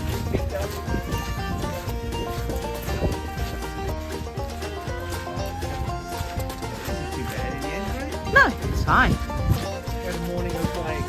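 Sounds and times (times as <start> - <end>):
background music with low bass: 0.0 - 11.0.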